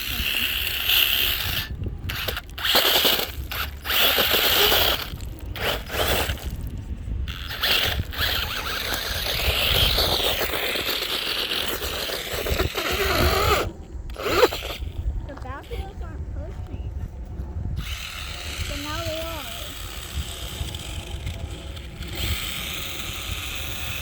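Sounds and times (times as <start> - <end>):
toy car motor whirring and grinding: 0.0 - 16.0, 17.8 - 24.0.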